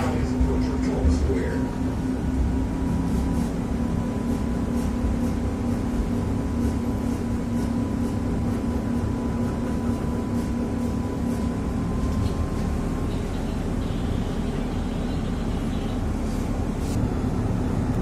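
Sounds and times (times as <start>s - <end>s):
thin steady whine: 0.0s - 18.0s
tram motors and wheels rumbling: 0.0s - 18.0s.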